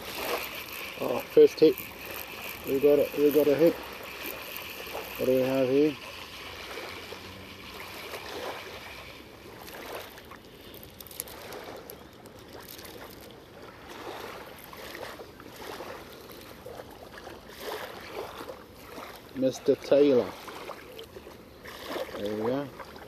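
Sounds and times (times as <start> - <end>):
small waves lapping: 0.0 - 23.0.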